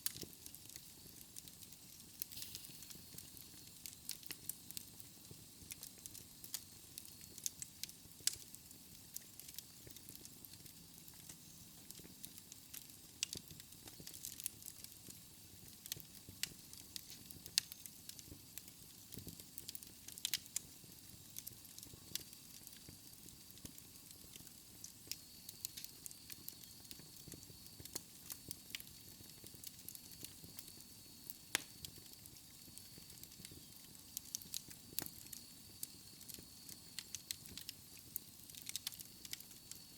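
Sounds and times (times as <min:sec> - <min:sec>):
faint steady hiss: 0:00.0 - 0:39.9
wood fire crackling and popping: 0:00.0 - 0:39.9.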